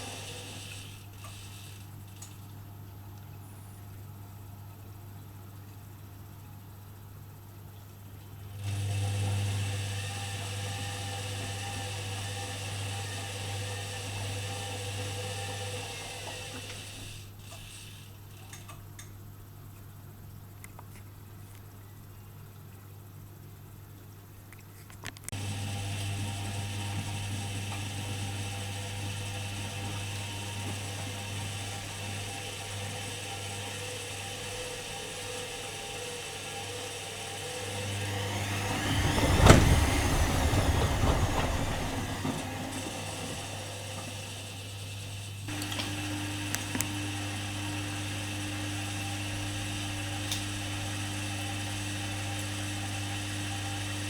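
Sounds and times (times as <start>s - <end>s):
washing machine motor humming: 0.0s - 20.6s, 25.3s - 54.0s.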